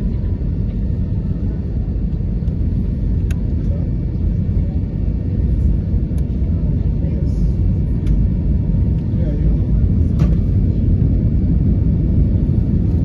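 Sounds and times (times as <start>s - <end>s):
aircraft cabin low rumble: 0.0s - 13.0s.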